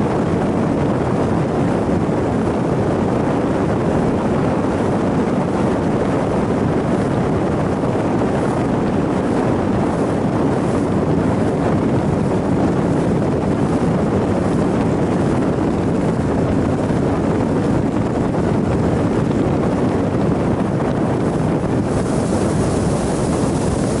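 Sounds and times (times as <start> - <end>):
wind buffeting microphone: 0.0 - 24.0
outboard motor running: 4.7 - 24.0
water rushing past hull: 4.7 - 24.0.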